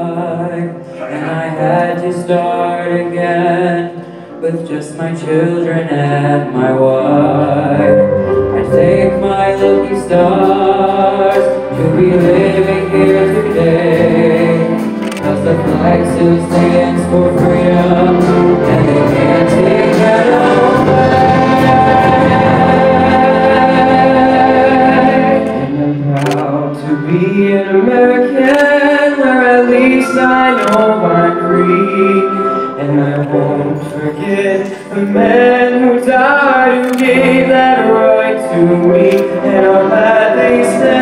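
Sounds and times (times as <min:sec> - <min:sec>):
choir singing with accompaniment: 0:00.0 - 0:04.4, 0:05.2 - 0:41.0.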